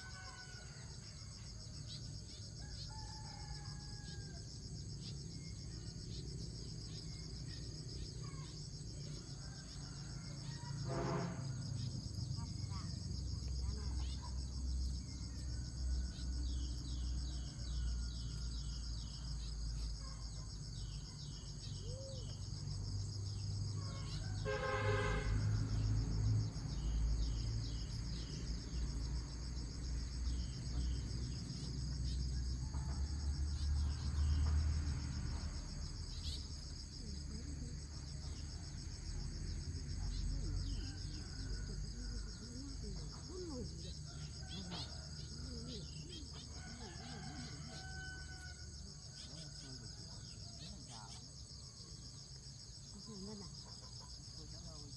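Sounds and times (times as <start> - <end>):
crickets and insects chirping: 0.0 - 54.9.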